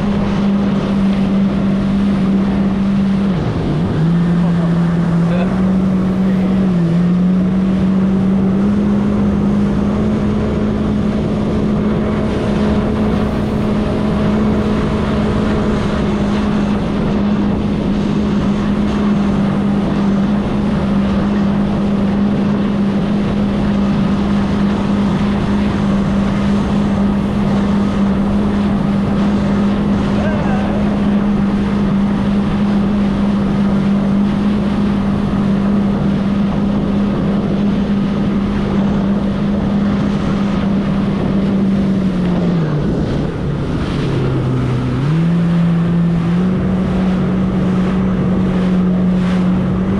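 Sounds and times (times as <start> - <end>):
jet ski engine running: 0.0 - 49.9
wind noise on microphone: 0.0 - 49.9.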